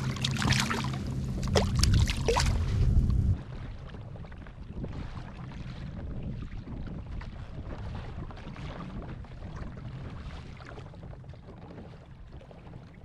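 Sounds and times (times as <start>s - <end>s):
water sloshing around kayak: 0.0s - 13.0s
wind buffeting microphone: 0.0s - 13.0s.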